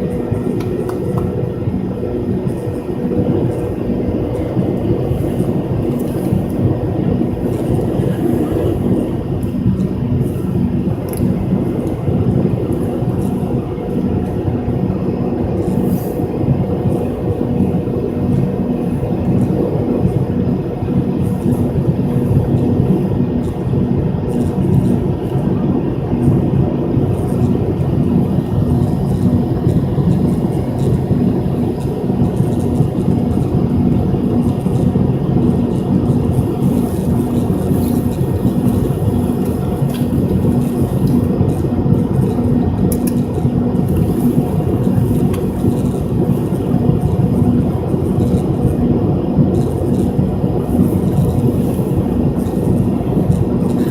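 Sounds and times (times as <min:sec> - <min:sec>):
airliner engine drone in cabin: 0:00.0 - 0:53.9.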